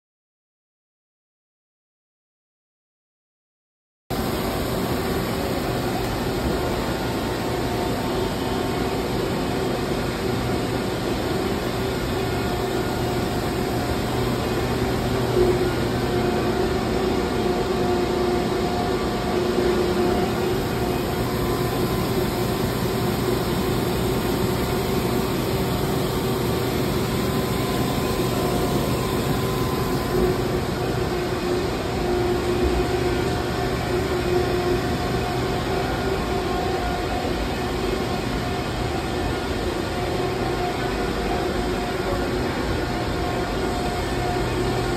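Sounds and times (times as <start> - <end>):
industrial machinery humming: 4.1 - 44.9.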